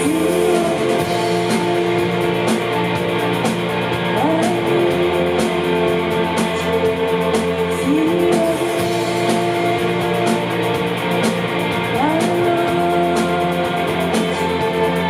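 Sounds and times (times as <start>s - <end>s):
drum kit with cymbals: 0.0s - 15.0s
electric guitars sliding notes: 0.0s - 15.0s.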